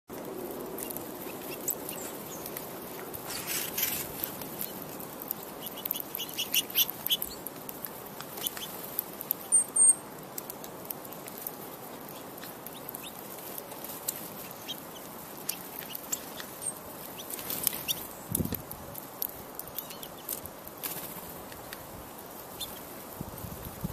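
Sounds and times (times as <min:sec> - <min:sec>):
songbirds chirping: 0:00.1 - 0:23.1
steady low hiss: 0:00.1 - 0:23.9.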